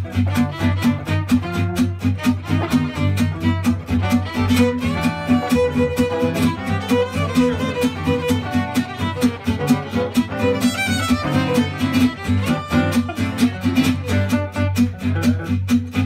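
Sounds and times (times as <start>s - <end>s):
violin melody: 0.0s - 15.1s
acoustic guitars strumming: 0.0s - 16.0s.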